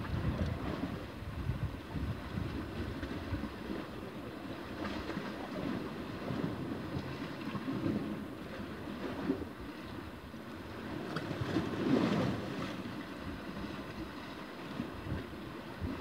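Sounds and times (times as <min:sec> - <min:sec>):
sea washing against rocks: 0:00.0 - 0:16.0
wind on microphone: 0:00.0 - 0:16.0.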